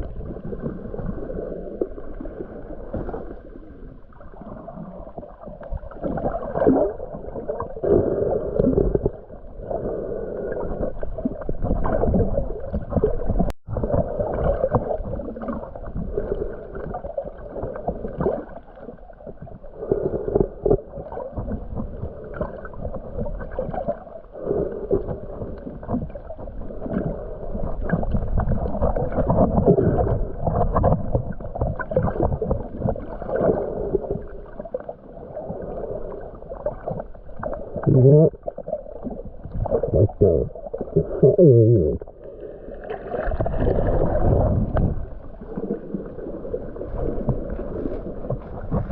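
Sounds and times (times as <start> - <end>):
underwater water sloshing and gurgling: 0.0 - 48.9.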